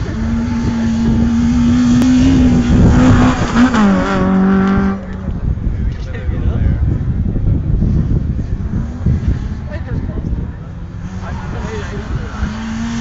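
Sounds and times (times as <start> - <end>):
rally car engine at high revs: 0.0 - 5.4, 7.6 - 13.0.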